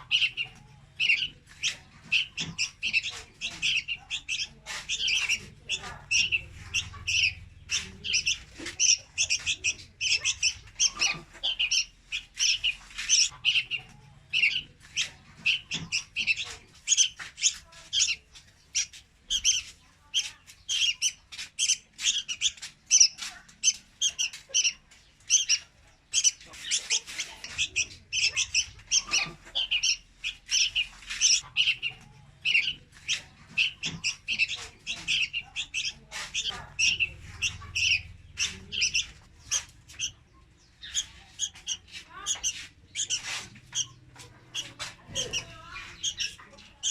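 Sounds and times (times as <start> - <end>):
bird high chirps: 0.0 - 46.9.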